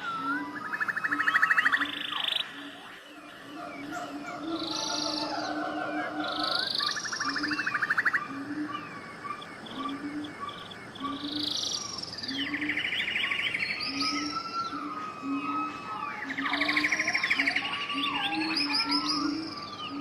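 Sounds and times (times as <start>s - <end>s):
wild birds singing: 0.0s - 20.0s.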